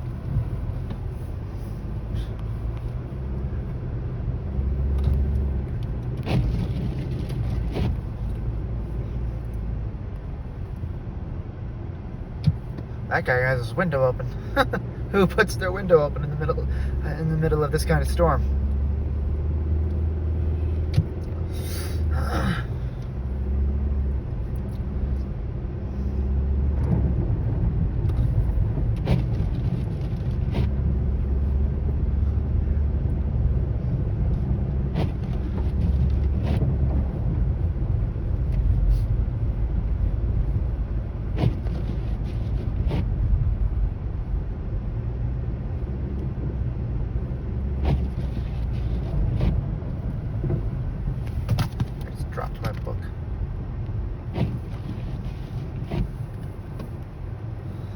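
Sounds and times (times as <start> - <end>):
car road rumble on snow: 0.0 - 57.9.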